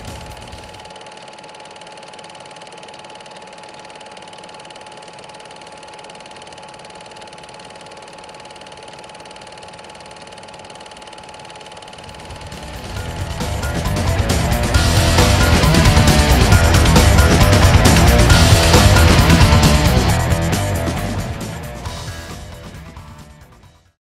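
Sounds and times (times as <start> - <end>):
film projector clattering: 0.0 - 23.6
projector whine: 0.0 - 23.8.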